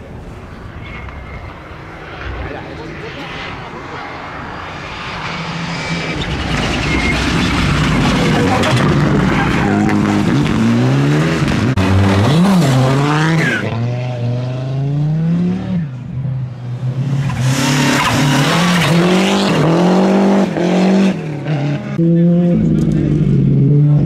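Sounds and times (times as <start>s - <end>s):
rally car engines at full throttle: 0.0s - 24.0s.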